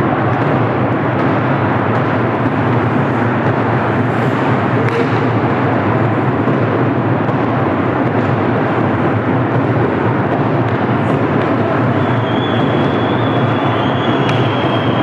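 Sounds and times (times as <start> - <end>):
arena crowd din: 0.0 - 15.0.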